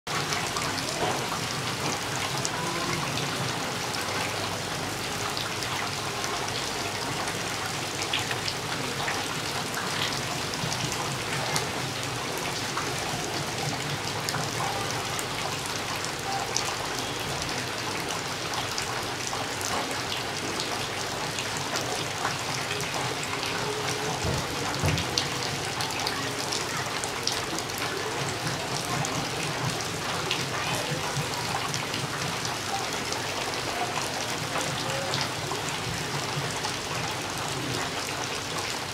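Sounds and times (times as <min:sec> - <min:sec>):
heavy rain on trees: 0:00.1 - 0:38.9.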